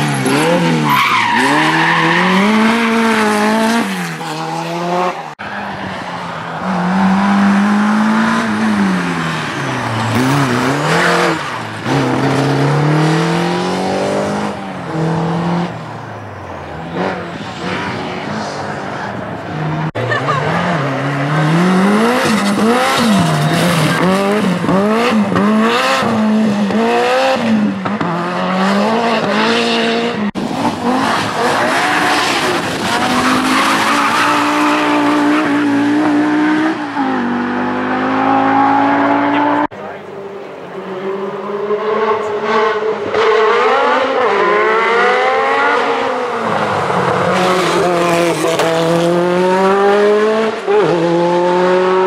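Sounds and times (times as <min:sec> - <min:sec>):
rally car engines at full throttle: 0:00.0 - 0:52.0.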